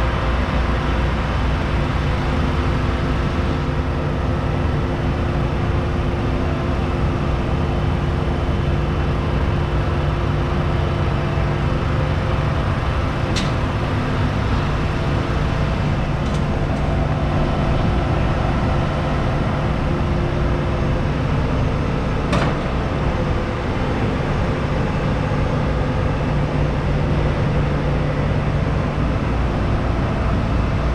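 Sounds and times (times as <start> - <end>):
diesel engine running steadily: 0.0 - 30.9.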